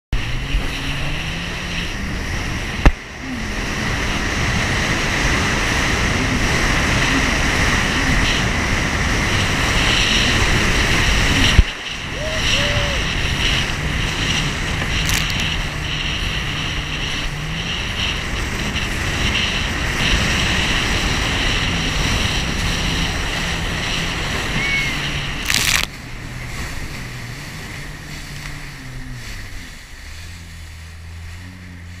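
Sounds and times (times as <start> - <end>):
jet ski engine hum: 0.1 - 32.0
wind and water spray rushing: 0.2 - 32.0.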